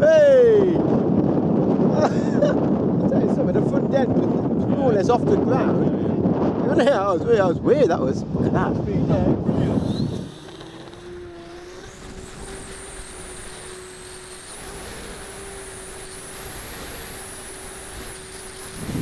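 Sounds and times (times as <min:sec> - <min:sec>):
model plane motor drone and whine: 0:00.0 - 0:19.0.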